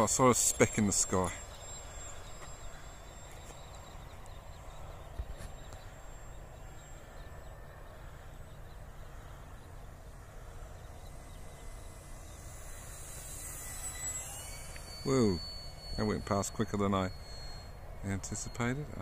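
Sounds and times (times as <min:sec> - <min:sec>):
model plane motor whine passing: 0:00.0 - 0:19.0.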